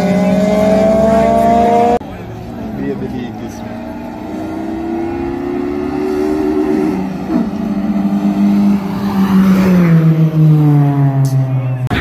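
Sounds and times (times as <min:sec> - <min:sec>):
racing car engine passing: 0:00.0 - 0:12.0.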